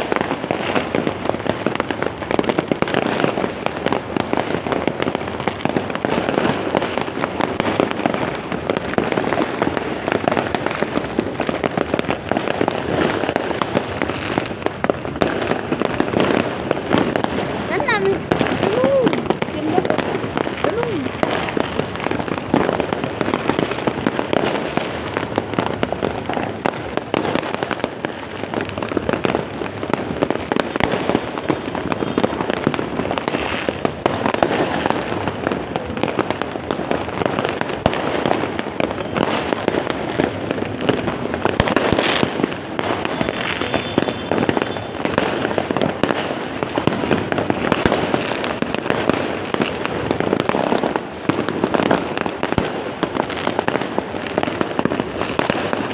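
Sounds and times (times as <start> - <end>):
fireworks and firecrackers crackling: 0.0 - 55.9.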